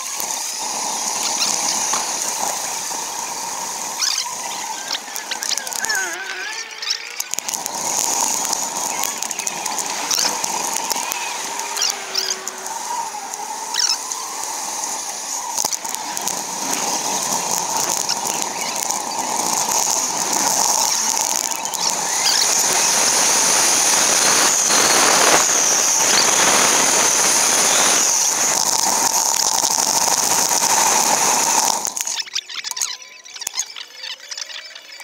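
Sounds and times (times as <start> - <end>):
high squeaks and chirps: 0.0 - 30.3
wind and road noise hiss: 0.0 - 32.2.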